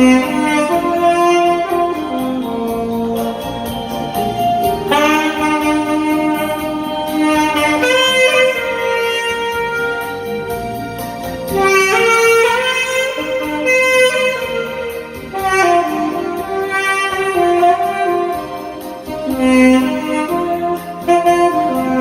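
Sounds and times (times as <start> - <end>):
quiet musical accompaniment: 0.0 - 22.0
saxophone slow melody: 0.0 - 22.0.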